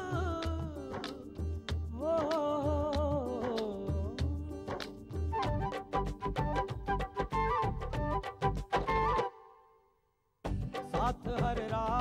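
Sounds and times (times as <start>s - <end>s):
steady drum beat: 0.0s - 8.8s, 10.5s - 12.0s
instrumental melody line: 0.0s - 9.8s.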